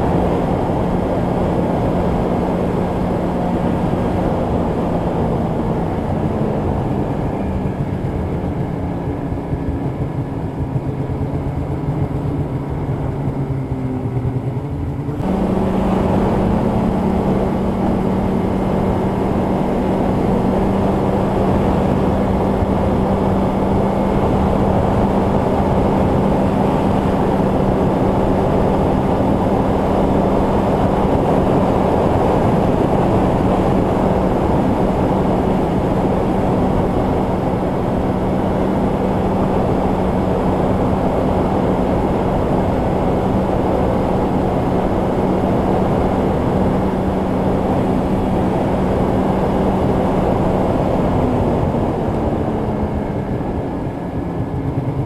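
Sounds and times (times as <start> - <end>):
snowmobile engine droning: 0.0 - 55.0
track and trail noise: 0.0 - 55.0.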